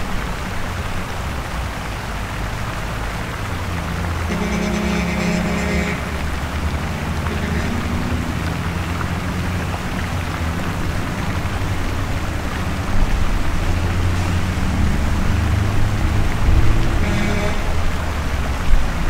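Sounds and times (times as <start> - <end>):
passing vehicle engines: 0.0 - 19.0
road noise: 0.0 - 19.0.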